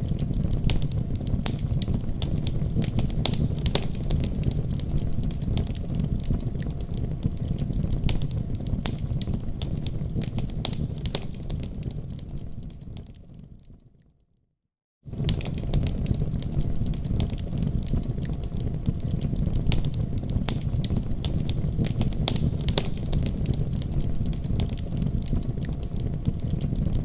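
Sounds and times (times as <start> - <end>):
wood fire crackling and popping: 0.0 - 13.8, 15.1 - 27.0.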